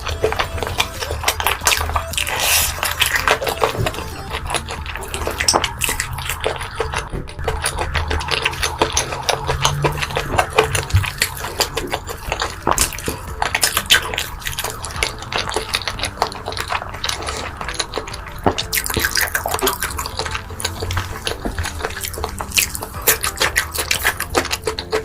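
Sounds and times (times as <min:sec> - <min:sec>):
wet chewing and mouth smacking: 0:00.0 - 0:25.0.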